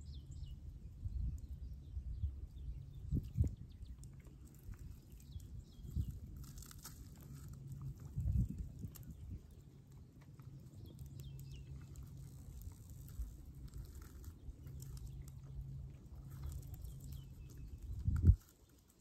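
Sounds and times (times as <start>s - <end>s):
low hum: 0.0s - 18.8s.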